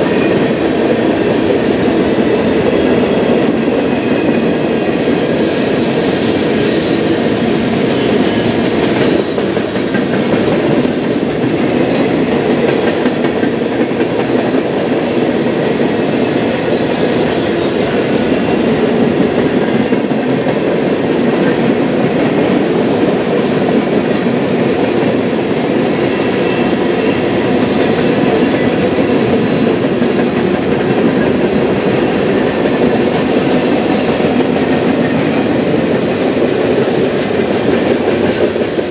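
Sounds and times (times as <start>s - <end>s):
freight train cars rolling past: 0.0s - 38.9s.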